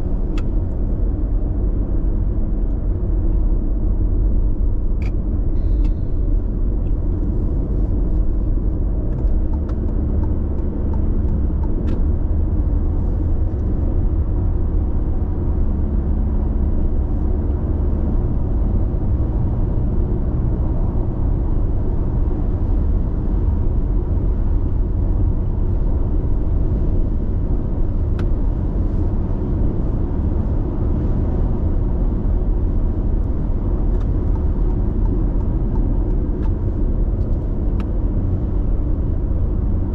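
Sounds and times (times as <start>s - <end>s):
car road rumble and tyre noise: 0.0s - 39.9s.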